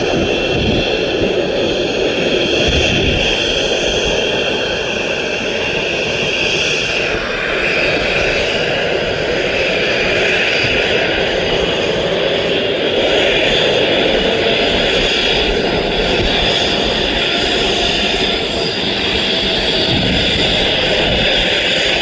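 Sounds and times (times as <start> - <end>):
jet engines running with whine: 0.0 - 22.0.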